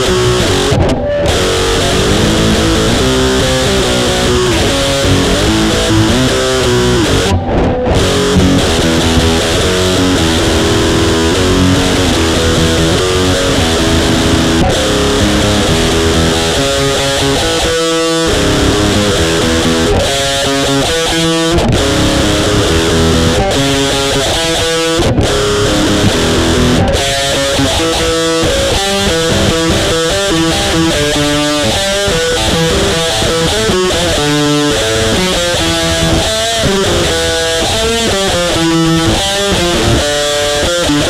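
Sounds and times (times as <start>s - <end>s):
distorted electric guitar riff: 0.0s - 41.0s.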